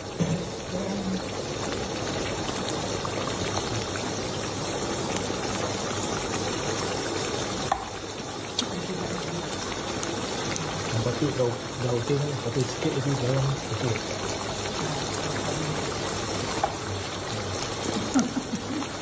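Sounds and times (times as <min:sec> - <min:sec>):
sauce simmering with bubbling hiss: 0:00.0 - 0:19.0.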